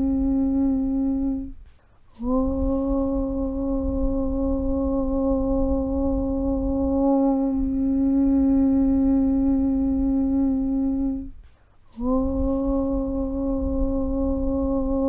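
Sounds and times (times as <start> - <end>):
low rumble: 0.0 - 15.0
person chanting om: 0.0 - 15.0.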